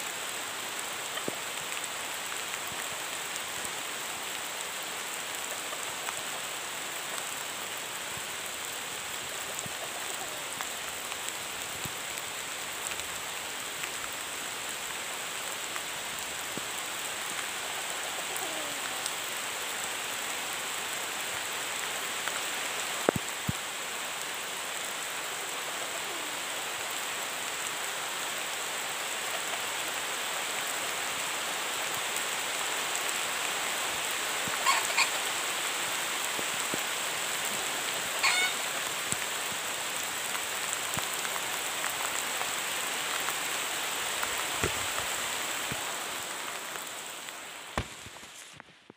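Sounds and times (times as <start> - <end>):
forest ambience hiss: 0.0 - 48.9.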